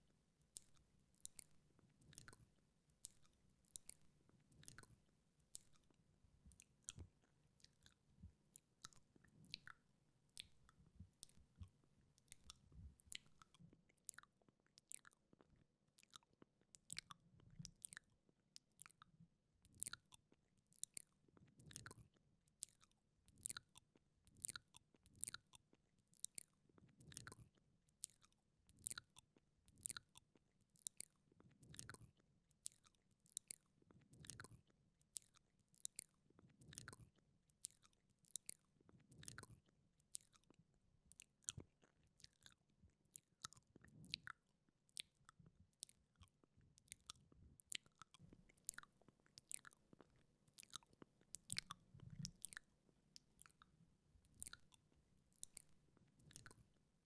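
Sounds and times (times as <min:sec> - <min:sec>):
wet tongue and lip clicks: 0:00.5 - 0:56.8.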